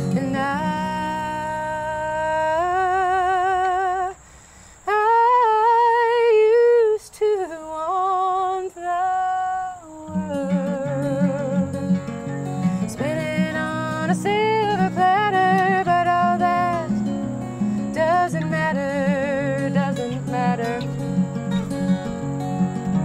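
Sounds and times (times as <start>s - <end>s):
wordless singing with vibrato: 0.0s - 21.8s
acoustic guitar: 0.0s - 23.0s.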